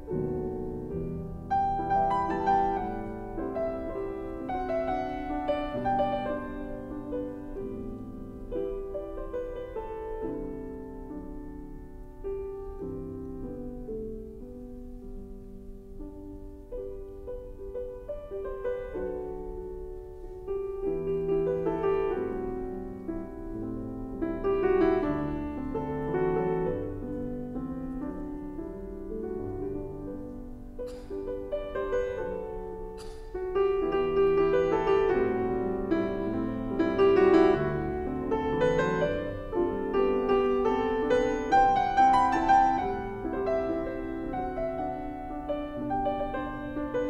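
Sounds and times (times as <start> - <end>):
slow solo piano piece: 0.0 - 47.0.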